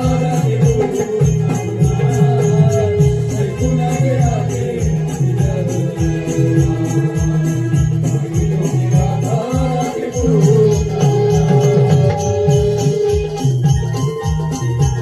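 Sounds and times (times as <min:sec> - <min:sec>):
drum beat: 0:00.0 - 0:15.0.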